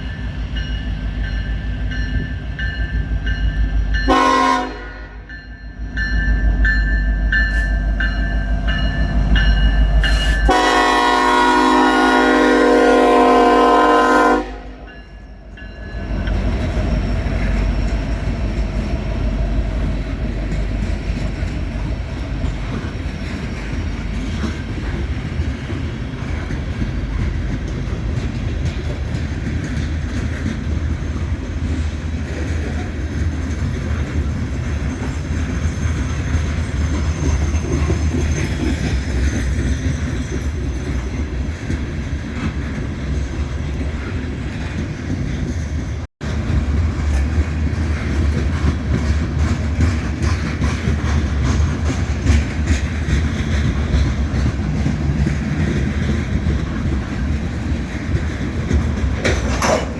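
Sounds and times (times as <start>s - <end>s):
freight train rumbling: 0.0s - 59.9s
train wheel clatter: 0.0s - 59.9s.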